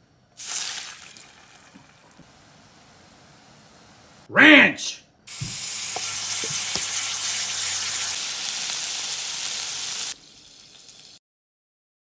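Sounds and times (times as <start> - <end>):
dressing sizzling in a skillet: 0.4 - 4.2, 5.3 - 11.2.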